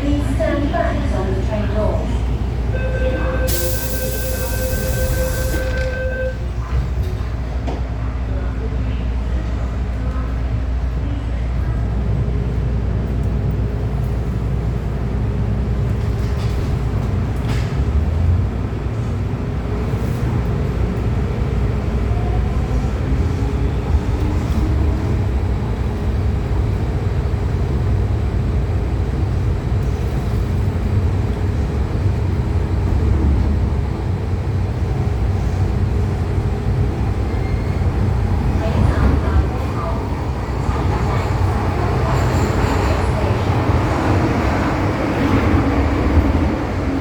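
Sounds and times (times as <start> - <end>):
train wheels rumbling: 9.2 - 47.0.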